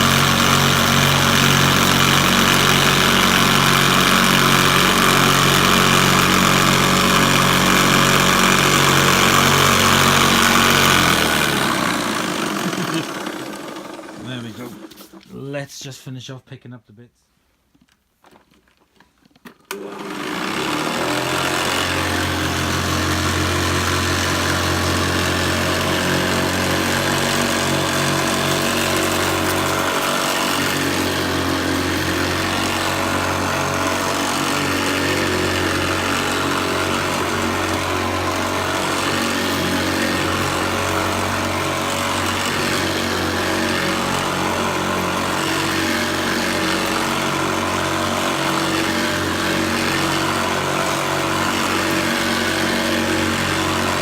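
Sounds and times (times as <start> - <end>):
vacuum cleaner motor running: 0.0 - 15.4, 19.7 - 54.0.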